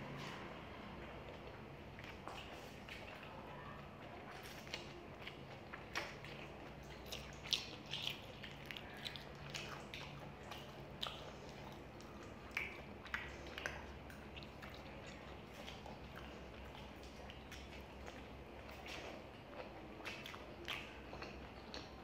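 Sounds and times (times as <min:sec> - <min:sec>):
wet chewing and smacking: 0:00.0 - 0:22.0.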